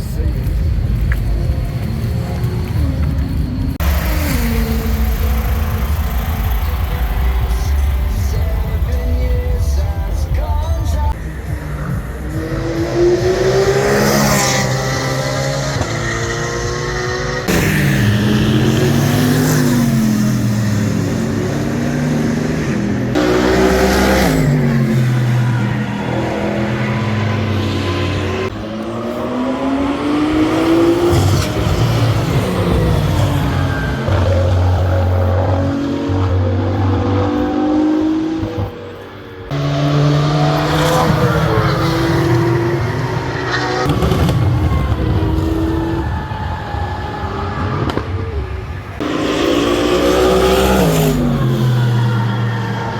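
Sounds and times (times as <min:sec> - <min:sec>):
race car engines passing: 0:00.0 - 0:52.9.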